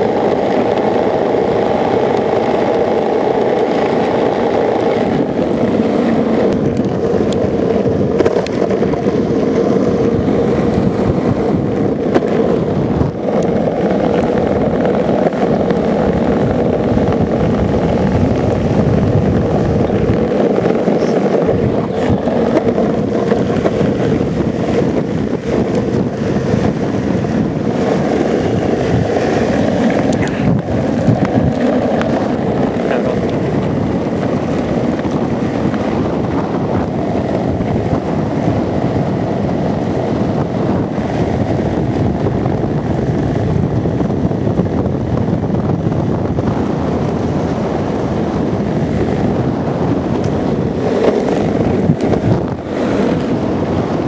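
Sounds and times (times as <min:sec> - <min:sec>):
skateboard wheels rolling on asphalt: 0:00.0 - 0:54.0
wind buffeting microphone: 0:00.0 - 0:54.0.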